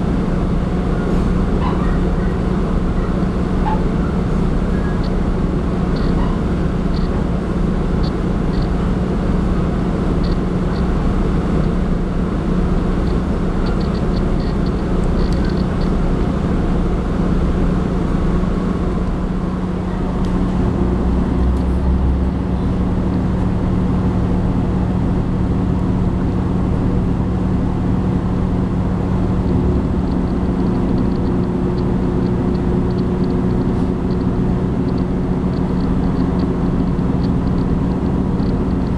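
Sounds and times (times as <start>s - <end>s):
low hum: 0.0s - 38.9s
railcar engine drone: 0.0s - 38.9s
wheels rumbling on track: 0.0s - 38.9s.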